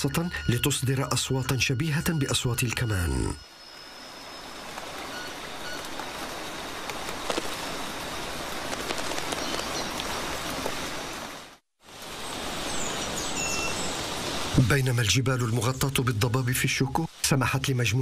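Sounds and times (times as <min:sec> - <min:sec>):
rain falling in forest: 0:01.9 - 0:18.0.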